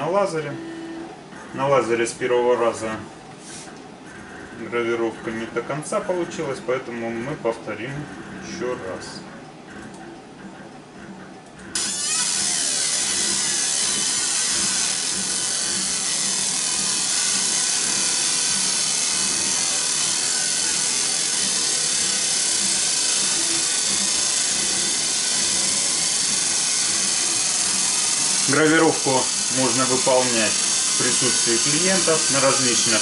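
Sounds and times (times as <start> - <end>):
laser engraver high hissing buzz: 0.0 - 6.6, 11.6 - 33.0.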